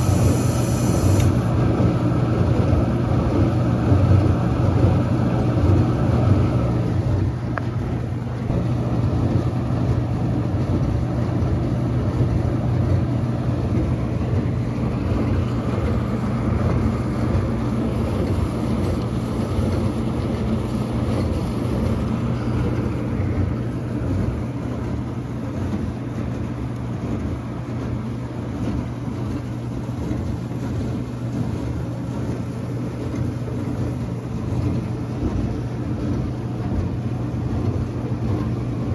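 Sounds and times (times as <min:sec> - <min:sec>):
dishwasher running: 0:00.0 - 0:38.9.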